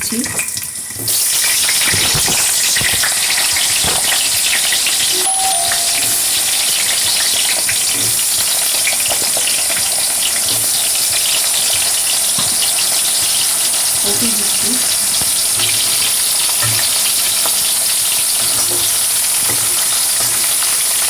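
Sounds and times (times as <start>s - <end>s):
potatoes frying in hot oil: 0.0s - 5.2s, 6.3s - 21.0s.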